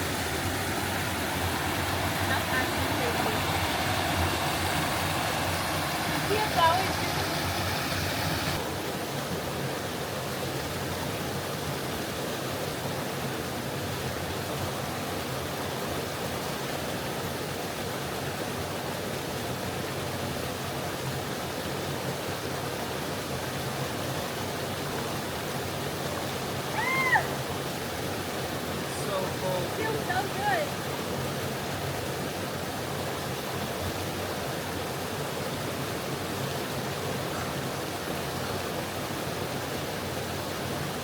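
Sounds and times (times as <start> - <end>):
creek water flowing: 0.0 - 41.0.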